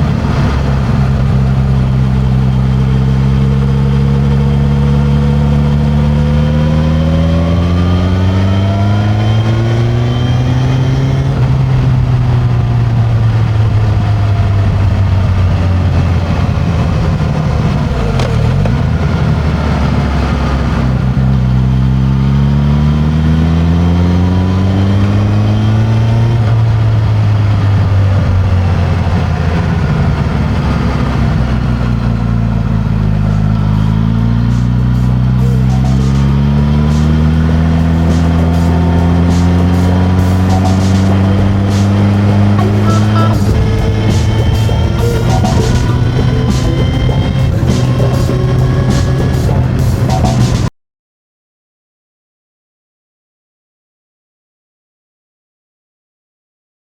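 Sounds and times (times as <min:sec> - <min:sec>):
motorcycle engine revving up: 0:00.0 - 0:50.7.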